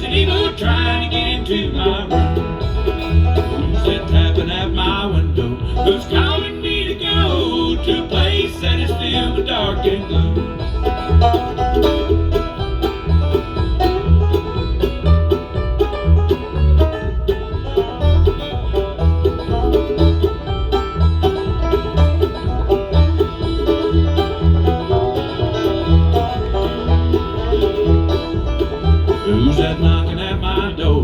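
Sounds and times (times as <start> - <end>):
fast banjo picking: 0.0 - 31.0
guitar: 0.0 - 31.0
low bass pulse: 0.0 - 31.0.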